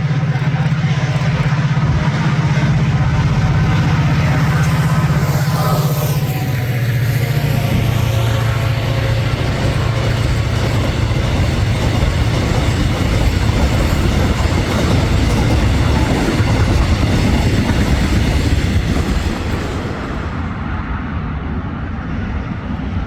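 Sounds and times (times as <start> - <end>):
wheels clattering over rail joints: 0.0 - 20.7
train rumbling past: 0.0 - 23.0.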